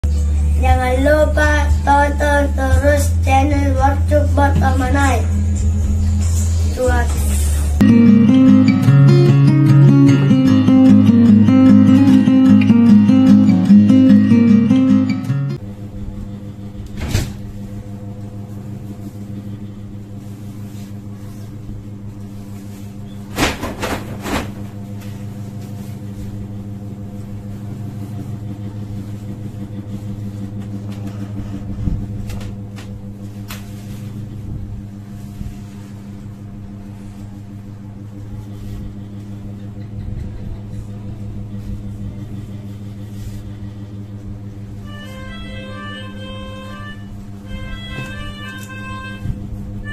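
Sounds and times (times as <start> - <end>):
steady electrical hum: 0.0 - 49.9.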